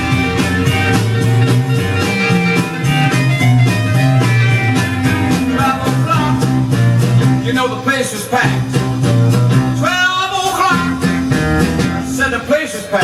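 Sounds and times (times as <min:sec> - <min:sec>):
bass guitar: 0:00.0 - 0:13.0
lead guitar: 0:00.0 - 0:13.0
steady drum beat: 0:00.0 - 0:13.0.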